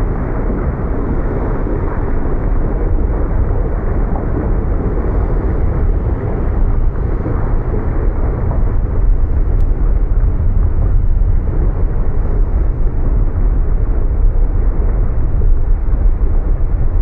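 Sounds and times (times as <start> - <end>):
deep volcanic rumble: 0.0 - 17.0.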